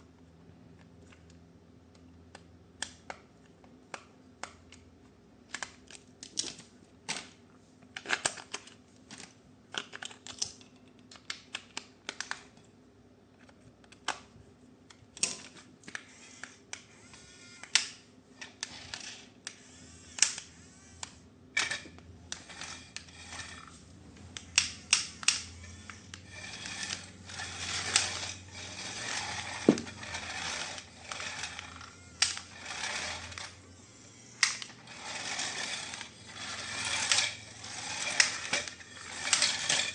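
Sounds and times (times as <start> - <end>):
plastic parts clicking and clacking: 5.5 - 12.7, 13.4 - 33.6, 34.2 - 39.9.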